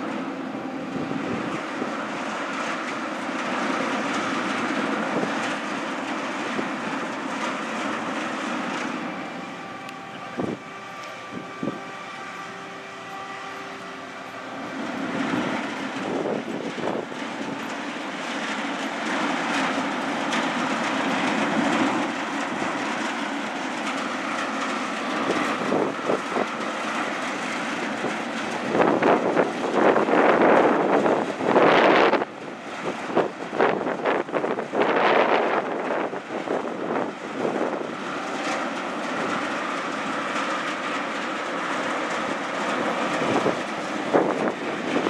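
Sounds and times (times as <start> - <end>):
machinery humming: 0.0 - 45.0
wind buffeting microphone: 0.0 - 45.0.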